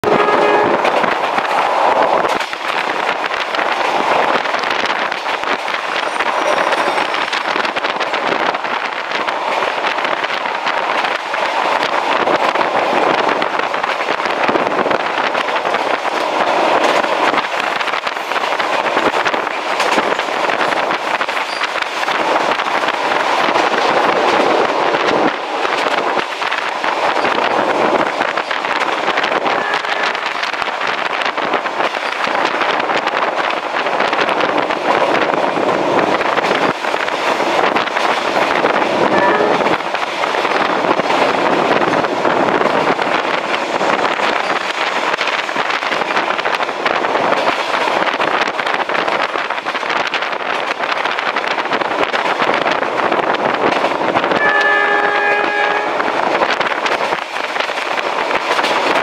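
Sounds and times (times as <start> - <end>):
train rushing noise: 0.0 - 59.0.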